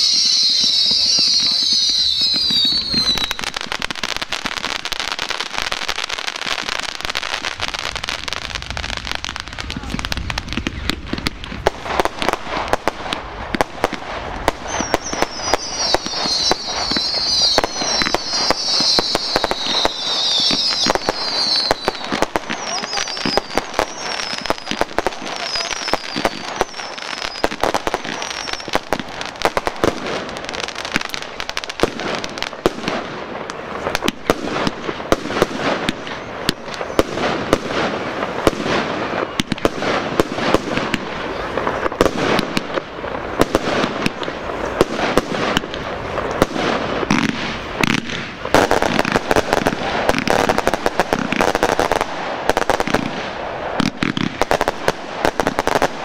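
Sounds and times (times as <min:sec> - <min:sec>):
fireworks bangs and pops: 0:00.0 - 0:56.0.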